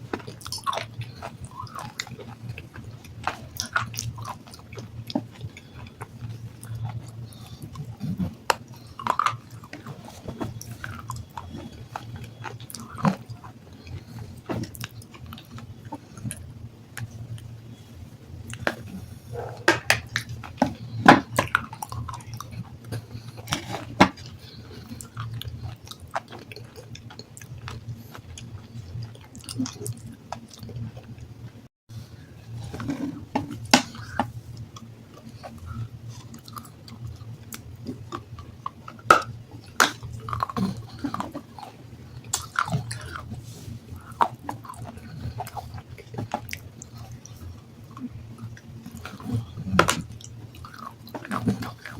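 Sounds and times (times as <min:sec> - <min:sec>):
crunching and chewing stone: 0:00.0 - 0:51.9
low steady hum: 0:00.0 - 0:51.9.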